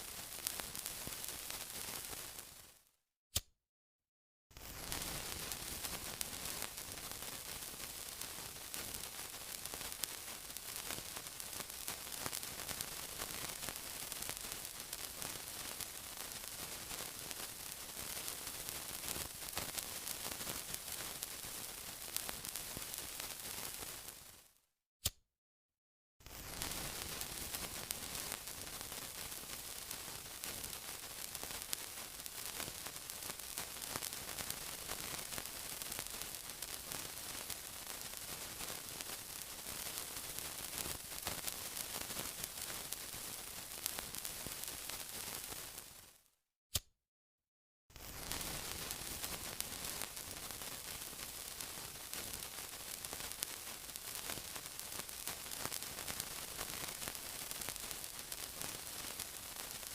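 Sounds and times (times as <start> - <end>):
sizzling with fine crackles: 0.0 - 2.9, 4.5 - 24.6, 26.2 - 46.3, 47.9 - 59.9.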